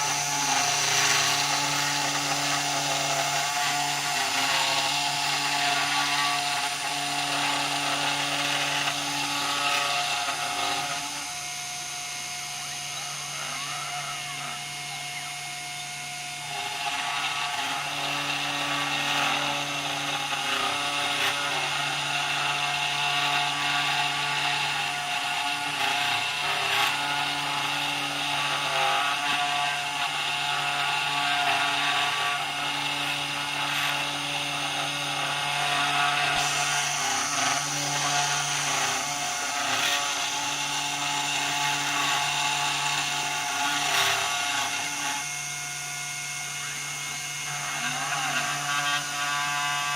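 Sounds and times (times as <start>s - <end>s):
cnc spindle motor humming: 0.0s - 49.9s
cnc tool cutting workpiece: 0.0s - 49.9s.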